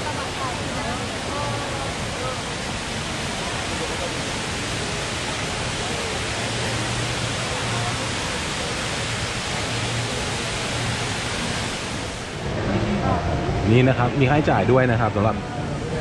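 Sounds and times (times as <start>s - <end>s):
indoor waterfall pouring: 0.0s - 16.0s.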